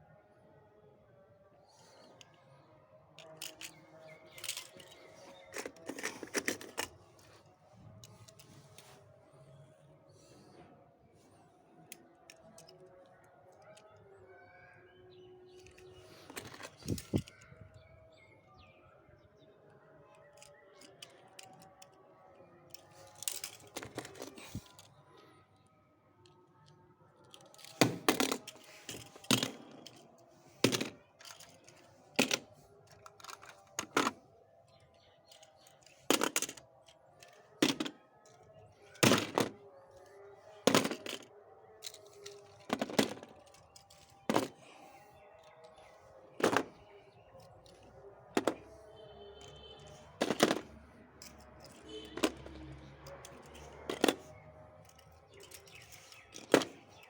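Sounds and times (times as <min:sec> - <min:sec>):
faint background music: 0:00.0 - 0:57.0
toy cars clacking on hard surface: 0:03.0 - 0:09.0, 0:11.8 - 0:14.2, 0:15.3 - 0:17.5, 0:19.9 - 0:25.4, 0:26.2 - 0:57.0.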